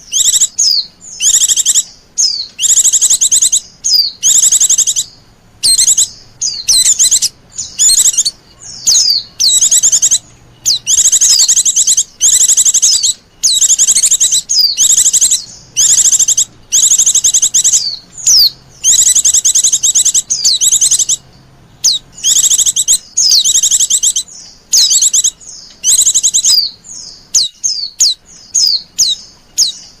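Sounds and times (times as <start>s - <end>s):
bird trilling and chirping: 0.0s - 30.0s.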